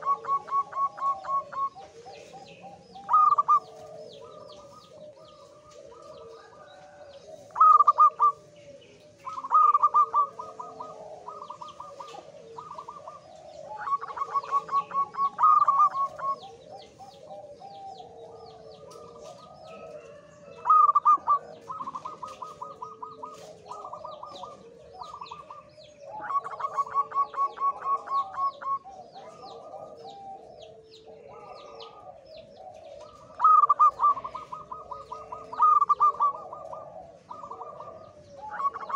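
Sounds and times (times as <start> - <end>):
dove cooing and trilling: 0.0 - 38.9
lower cooing: 0.0 - 38.9
small birds chirping: 0.0 - 38.9.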